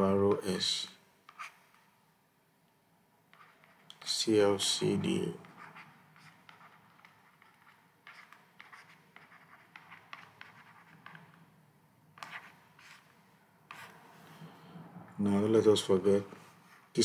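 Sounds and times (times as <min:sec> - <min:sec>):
stylus scratching on pen tablet: 0:00.3 - 0:01.9, 0:03.3 - 0:17.0.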